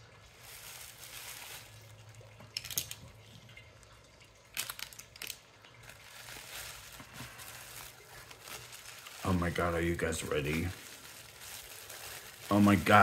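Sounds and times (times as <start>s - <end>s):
bubble wrap crinkling: 0.0s - 3.3s, 4.5s - 13.0s.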